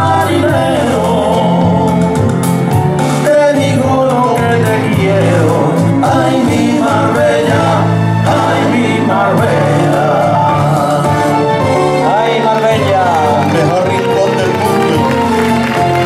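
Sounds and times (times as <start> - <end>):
two men singing: 0.0 - 15.1
instrumental backing: 0.0 - 16.0.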